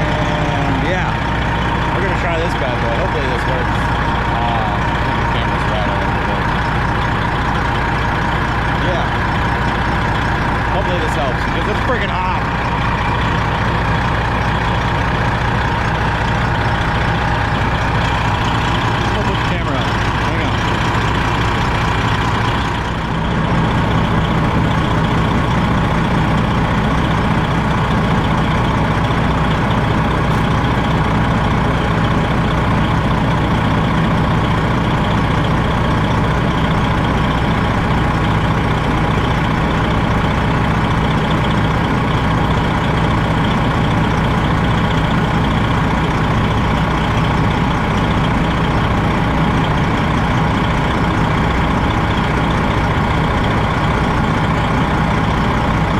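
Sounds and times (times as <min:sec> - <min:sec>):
truck diesel engine idling: 0:00.0 - 0:55.9.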